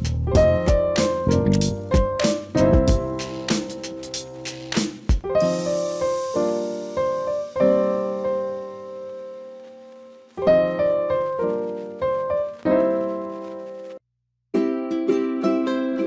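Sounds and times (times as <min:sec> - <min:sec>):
piano chords: 0:00.3 - 0:14.0.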